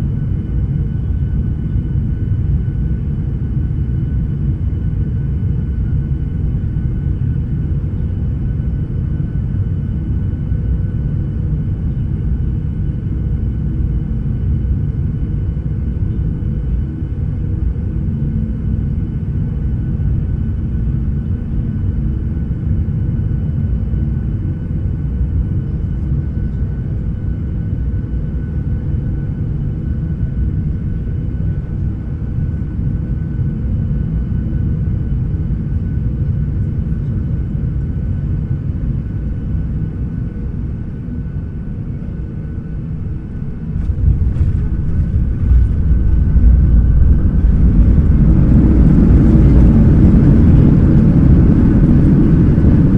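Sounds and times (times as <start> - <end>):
airliner cabin rumble: 0.0 - 52.9
faint engine whine: 0.0 - 52.9.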